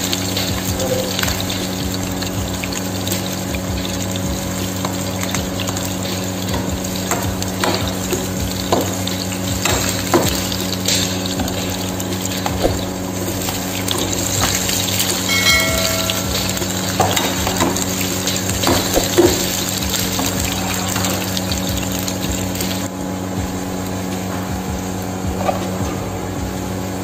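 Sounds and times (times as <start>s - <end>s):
garlic sizzling in hot oil: 0.0s - 27.0s.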